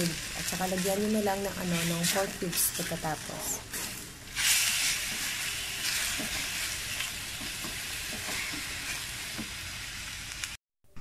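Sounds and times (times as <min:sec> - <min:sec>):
meat and onions sizzling in wok: 0:00.0 - 0:10.6
spatula scraping a pan: 0:00.3 - 0:09.2.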